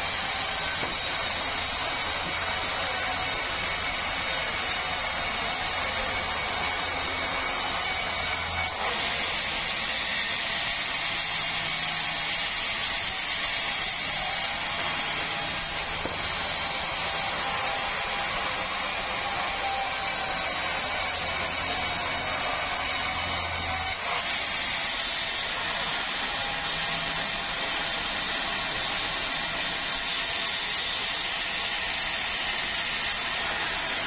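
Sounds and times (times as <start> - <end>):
power saw cutting log: 0.0 - 34.0.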